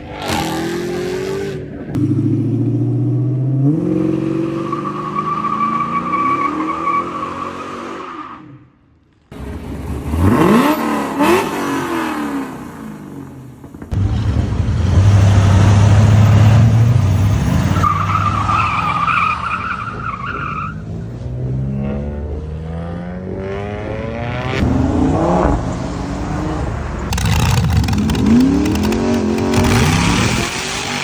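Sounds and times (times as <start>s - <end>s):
car engines revving: 0.0s - 8.2s, 9.3s - 31.0s.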